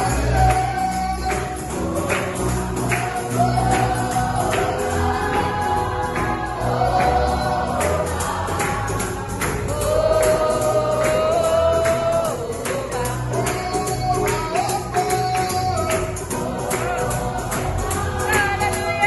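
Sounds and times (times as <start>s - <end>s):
bass line: 0.0s - 19.0s
group of voices singing: 0.0s - 19.0s
tambourine beat: 0.0s - 19.0s.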